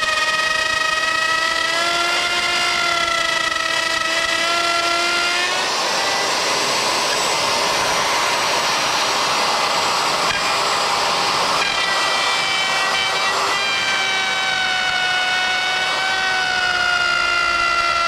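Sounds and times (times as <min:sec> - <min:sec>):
router high whine: 0:00.0 - 0:18.0
router rough cutting noise: 0:00.0 - 0:18.0.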